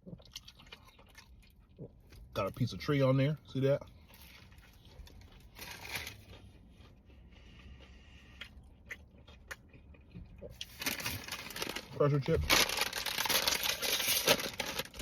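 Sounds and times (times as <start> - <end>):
person chewing and crunching: 0.0 - 2.6, 3.7 - 15.0.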